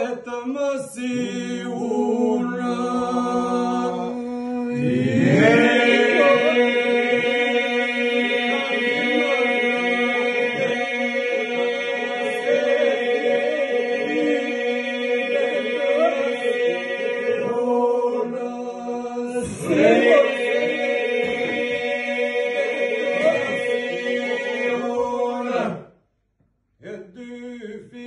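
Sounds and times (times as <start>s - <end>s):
men singing polyphonic song: 0.0s - 25.8s.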